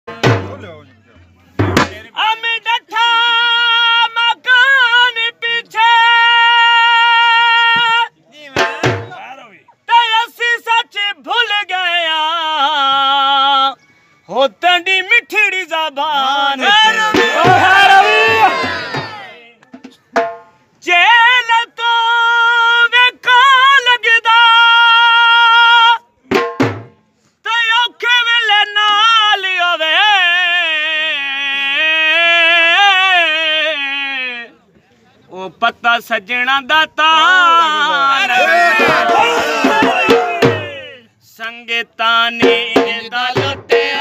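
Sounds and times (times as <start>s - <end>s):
man singing in a high voice: 1.8s - 9.1s, 9.7s - 19.6s, 20.8s - 26.4s, 27.4s - 34.6s, 35.3s - 44.0s.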